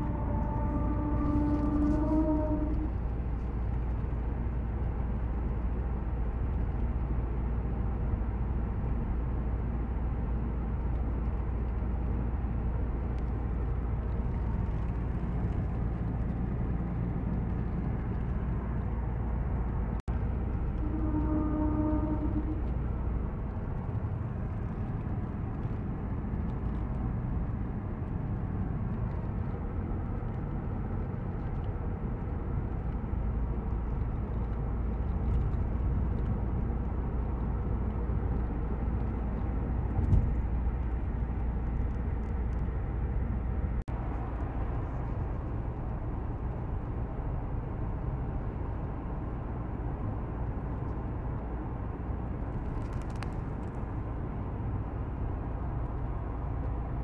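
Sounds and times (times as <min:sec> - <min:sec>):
car interior road rumble: 0:00.0 - 0:57.0.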